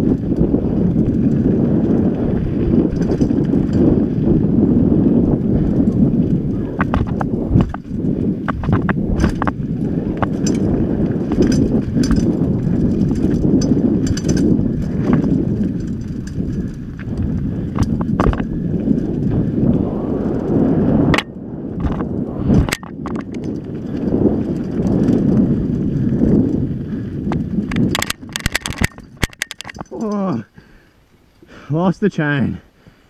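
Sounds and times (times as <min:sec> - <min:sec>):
bike clacking and rattling: 0:00.0 - 0:30.8
wind on microphone: 0:00.0 - 0:30.8
bike tyres rumbling on dirt: 0:00.0 - 0:33.0.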